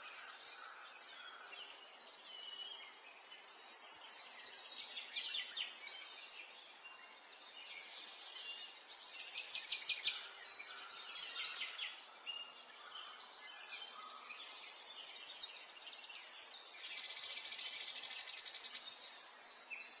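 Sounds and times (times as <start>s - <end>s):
birds chirping and trilling: 0.0s - 20.0s.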